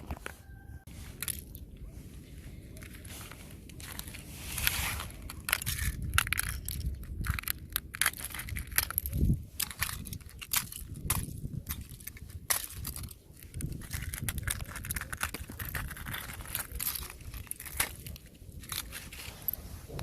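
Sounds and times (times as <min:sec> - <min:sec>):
thin ice crunching and cracking: 0:01.1 - 0:20.0.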